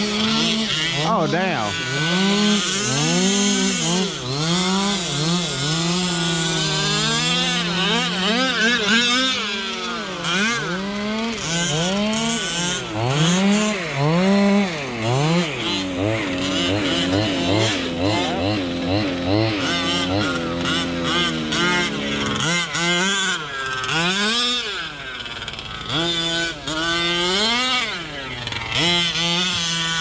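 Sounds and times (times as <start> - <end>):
small two-stroke engines revving: 0.0 - 30.0.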